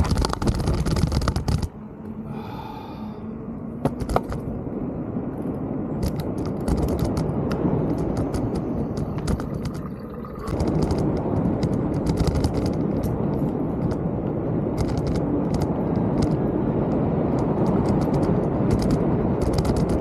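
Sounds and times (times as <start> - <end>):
bike clicking and rattling: 0.0 - 1.8, 3.8 - 4.6, 5.3 - 20.0
wind on microphone: 0.0 - 2.7, 3.4 - 20.0.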